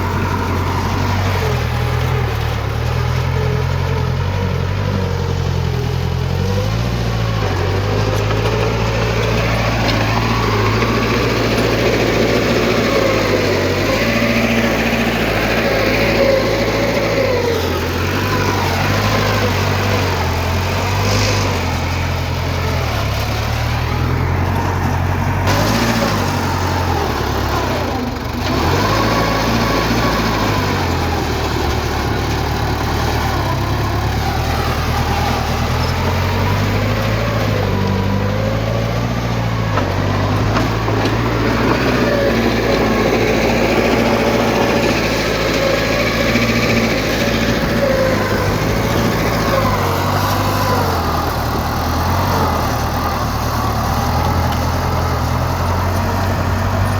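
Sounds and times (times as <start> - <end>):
heavy machinery diesel engines: 0.0 - 56.9.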